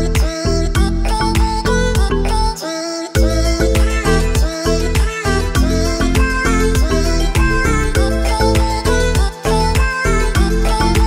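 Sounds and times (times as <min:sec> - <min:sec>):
music with steady beat: 0:00.0 - 0:02.6, 0:03.2 - 0:11.0.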